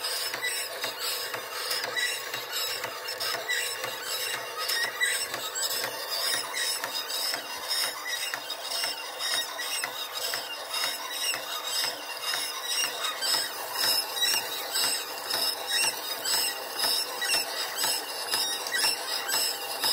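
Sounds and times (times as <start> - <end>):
film scanner take-up reel squealing: 0.0 - 19.9.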